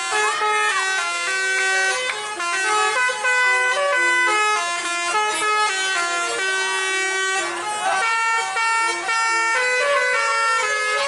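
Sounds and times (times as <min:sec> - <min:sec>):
musical bus horn playing a tune: 0:00.0 - 0:11.0.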